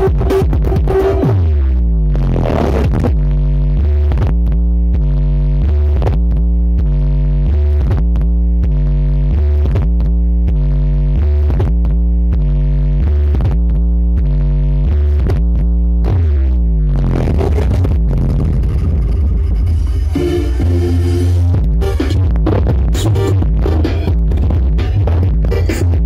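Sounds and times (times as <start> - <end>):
loud electronic dance music: 0.0 - 26.0.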